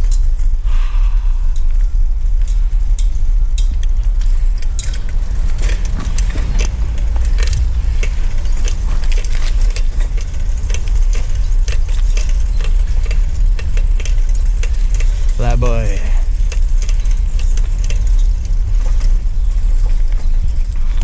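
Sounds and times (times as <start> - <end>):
vehicle engine idling: 1.0 - 21.0.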